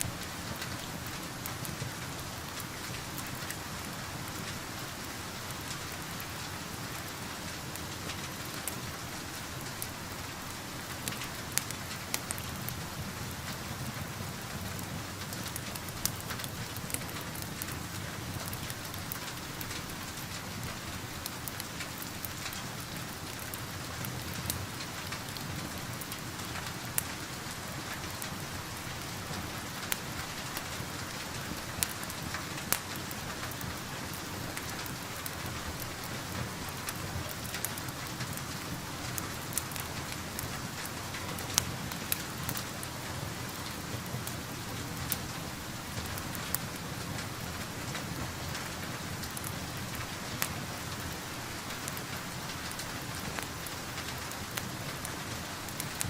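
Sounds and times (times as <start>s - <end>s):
rain hiss: 0.0s - 56.0s
wood fire crackling: 0.0s - 56.0s.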